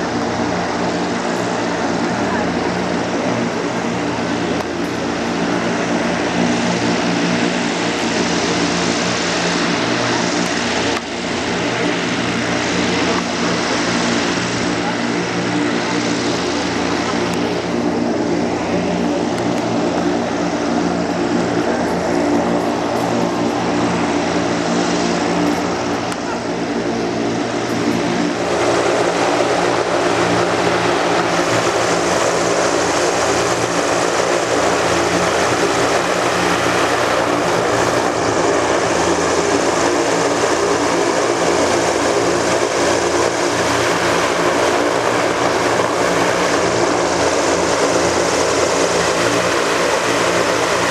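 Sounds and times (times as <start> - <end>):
airship propellers and engines: 0.0 - 50.9.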